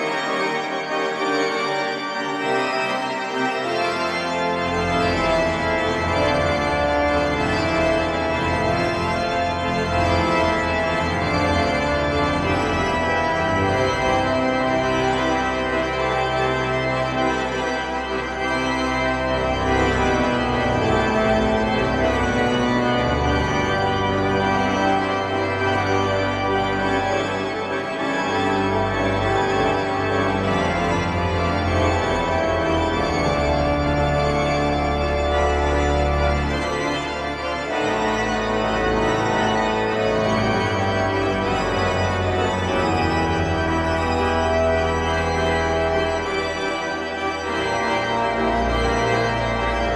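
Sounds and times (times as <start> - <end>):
pipe organ chords: 0.0 - 49.9.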